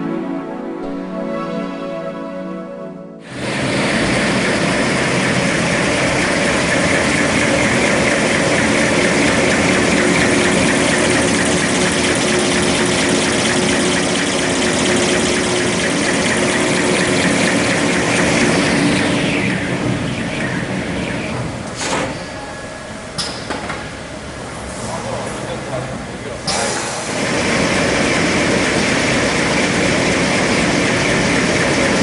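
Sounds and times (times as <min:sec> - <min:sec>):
falling machine whine: 0:00.0 - 0:32.0
machine clatter and hum: 0:03.2 - 0:32.0.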